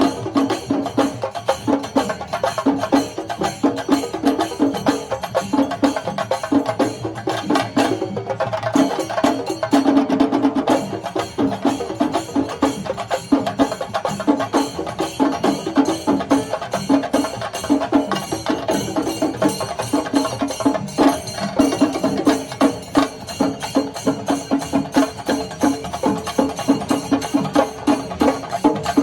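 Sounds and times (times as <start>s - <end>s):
percussion ensemble drumming fast: 0.0s - 29.0s.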